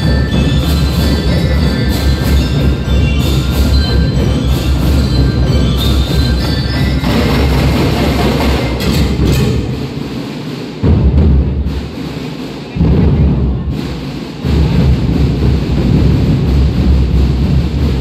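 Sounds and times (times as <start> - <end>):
marching drum line: 0.0 - 18.0.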